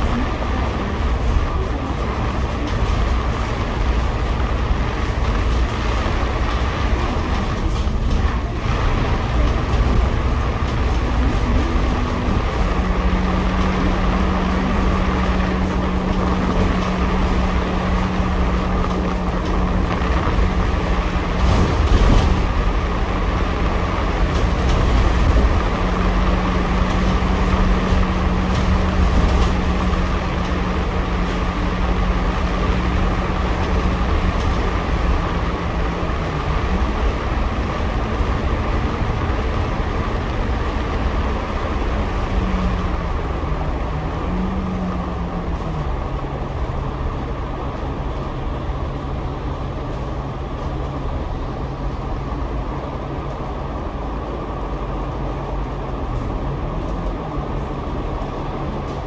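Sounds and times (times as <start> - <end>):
bus engine hum: 0.0 - 59.0
road rumble: 0.0 - 59.0.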